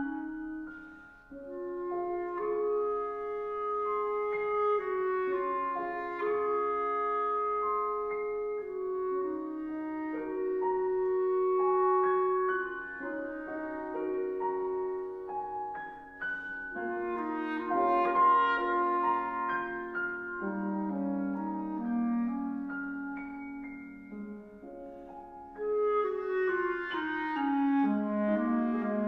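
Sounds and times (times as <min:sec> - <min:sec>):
clarinet notes: 0:00.0 - 0:29.0
piano notes and chords: 0:00.0 - 0:29.0.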